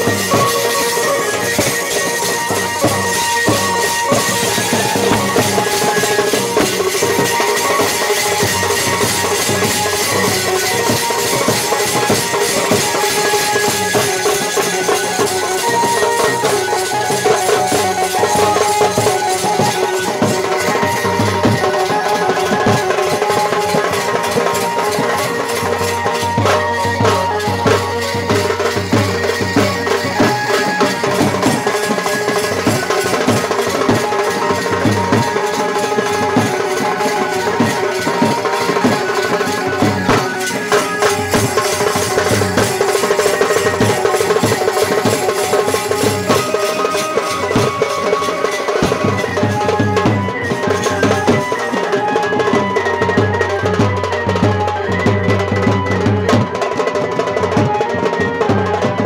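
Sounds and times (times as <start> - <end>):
folk dance melody: 0.0 - 59.0
large drum beaten with stick: 0.0 - 59.0.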